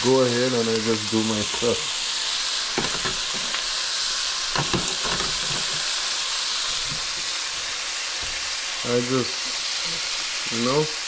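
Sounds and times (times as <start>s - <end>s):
meat sizzling in hot oil: 0.0s - 11.0s
oil crackling: 0.0s - 11.0s.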